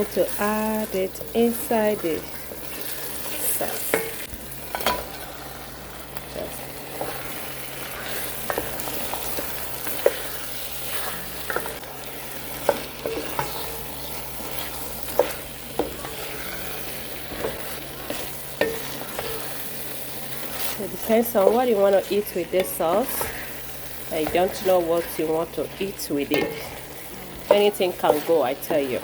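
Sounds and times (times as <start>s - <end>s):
sauce sizzling in a pot: 0.0s - 29.0s.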